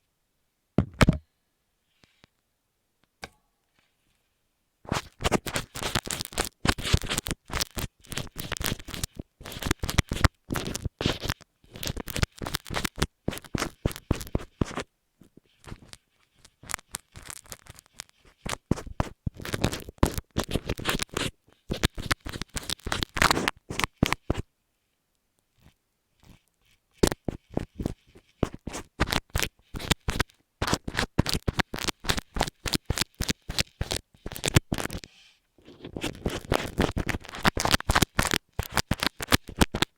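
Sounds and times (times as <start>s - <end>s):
scratching on earphone microphone: 4.8s - 24.5s, 25.5s - 39.9s.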